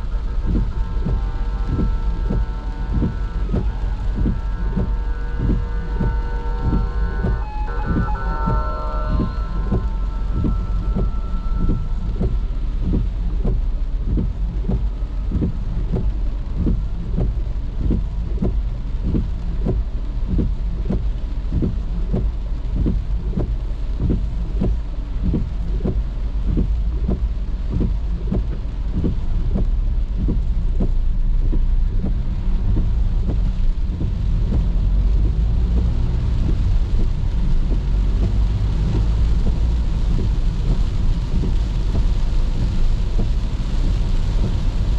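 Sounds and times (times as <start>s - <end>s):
rain on a car: 0.0s - 44.9s
road and engine rumble: 0.0s - 44.9s
windscreen wipers knocking: 0.0s - 44.9s.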